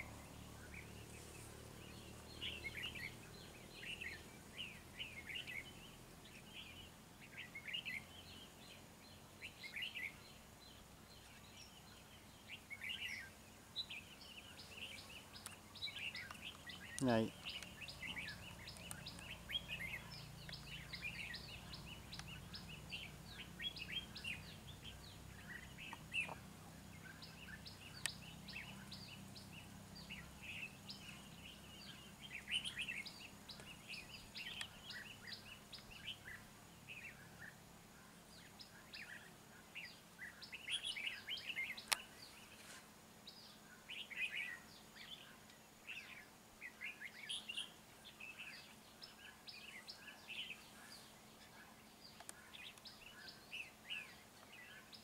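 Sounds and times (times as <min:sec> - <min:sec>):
bulbuls chirping: 0:00.0 - 0:55.0.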